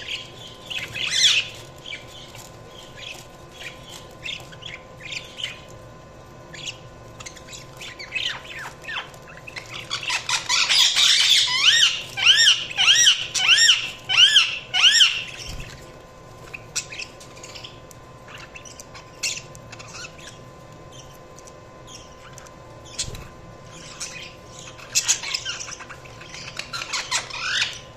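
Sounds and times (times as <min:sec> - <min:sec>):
budgerigars chirping: 0:00.0 - 0:05.7, 0:06.5 - 0:21.2, 0:21.9 - 0:27.9.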